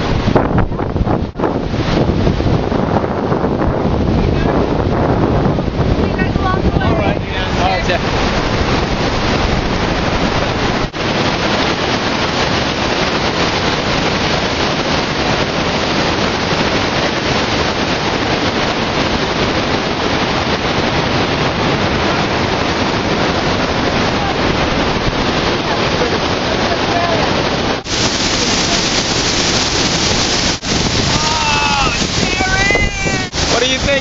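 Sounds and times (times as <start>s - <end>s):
whitewater rushing: 1.4s - 34.0s.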